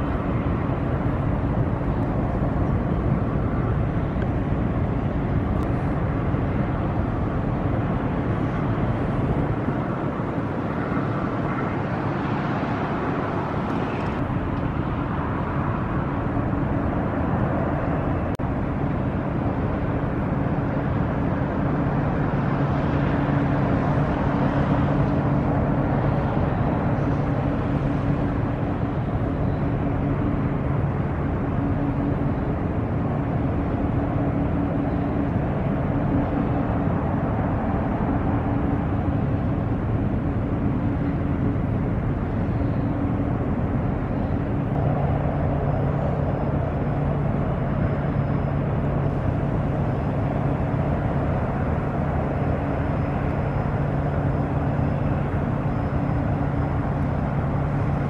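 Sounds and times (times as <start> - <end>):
barge diesel engine hum: 0.0 - 58.0
constant rushing noise: 0.0 - 58.0.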